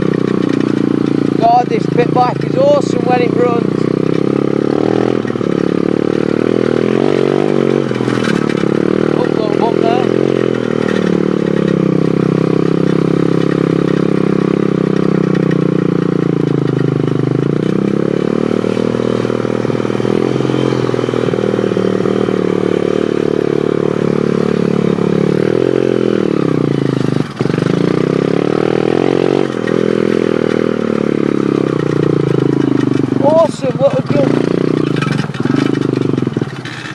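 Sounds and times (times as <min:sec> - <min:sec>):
motorbike engine running: 0:00.0 - 0:36.9.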